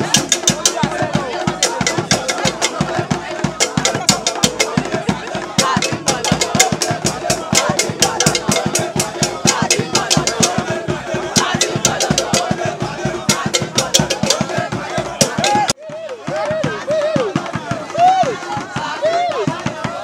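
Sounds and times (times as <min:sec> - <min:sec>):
crowd voices: 0:00.0 - 0:20.0
drum ensemble playing fast rhythm: 0:00.0 - 0:20.0.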